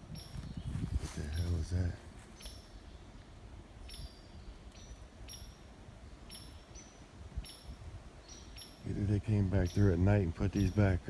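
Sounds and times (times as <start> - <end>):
low rumble of wind: 0.0 - 11.0.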